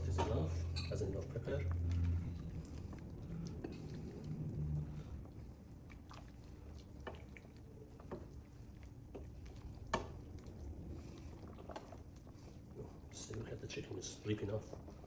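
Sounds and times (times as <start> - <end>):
light clicks and taps in kitchen: 0.0 - 4.4, 6.7 - 15.0.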